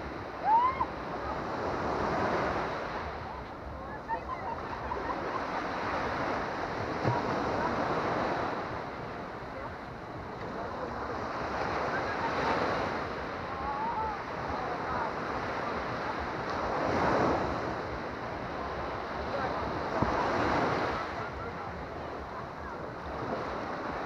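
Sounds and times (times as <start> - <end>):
small waves washing up beach: 0.0 - 24.0.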